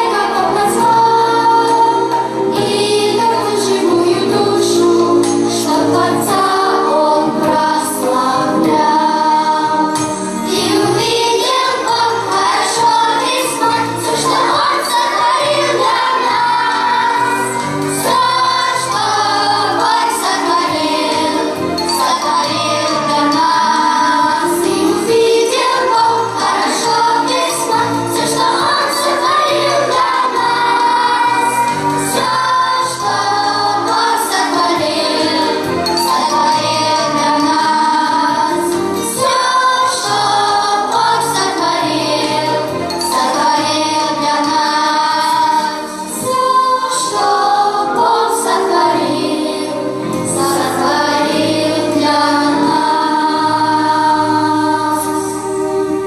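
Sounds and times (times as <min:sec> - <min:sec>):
several voices singing: 0:00.0 - 0:56.0.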